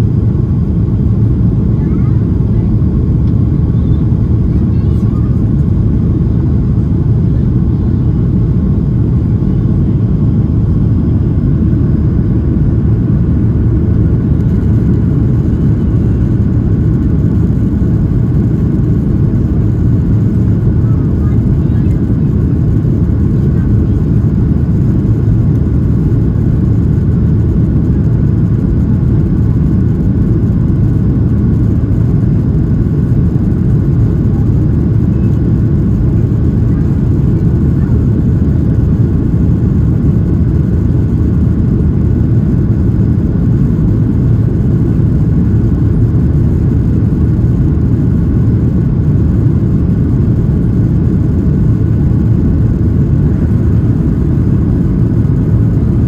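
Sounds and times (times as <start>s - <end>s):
faint whine: 0.0s - 56.0s
jet engine cabin rumble: 0.0s - 56.0s.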